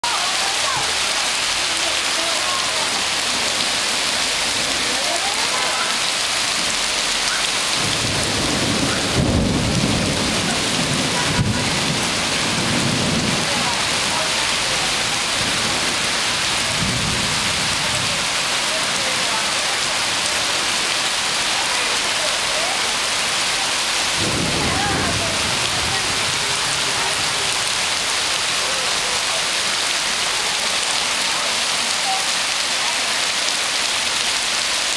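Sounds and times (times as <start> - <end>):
heavy rain on pavement: 0.0 - 34.9.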